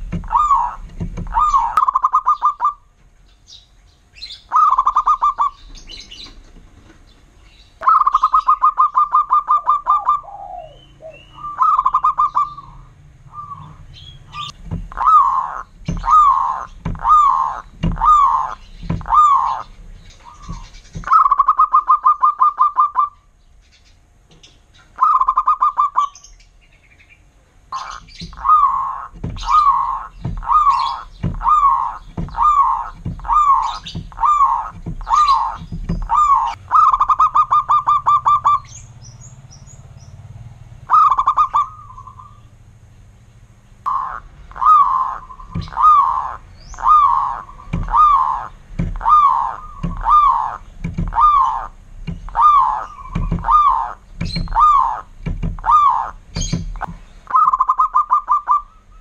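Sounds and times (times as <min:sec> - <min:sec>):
dove cooing and trilling: 0:00.0 - 0:02.9, 0:04.2 - 0:06.5, 0:07.8 - 0:23.3, 0:24.9 - 0:26.3, 0:27.7 - 0:38.8, 0:40.8 - 0:42.5, 0:43.9 - 0:59.0.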